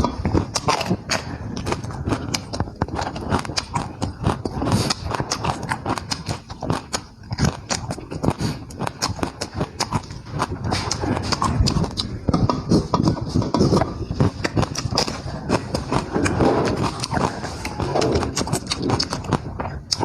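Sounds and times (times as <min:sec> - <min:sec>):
person chewing with wet smacks: 0:00.0 - 0:20.0.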